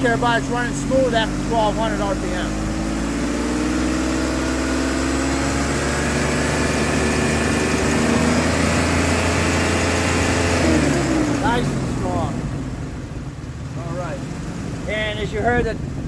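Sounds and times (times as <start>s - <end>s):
car engine running above idle: 0.0s - 16.0s.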